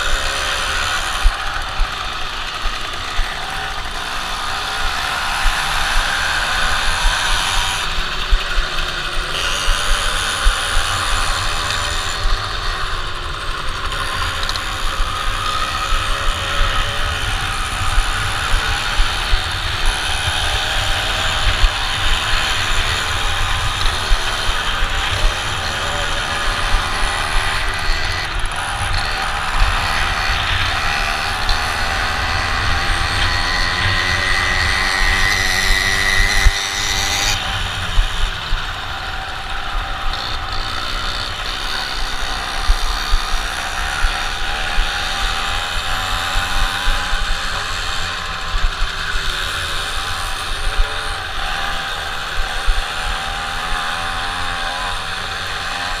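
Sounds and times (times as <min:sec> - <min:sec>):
wind buffeting microphone: 0:00.0 - 0:13.1, 0:13.7 - 0:49.3
minibike engine revving: 0:00.0 - 0:56.0.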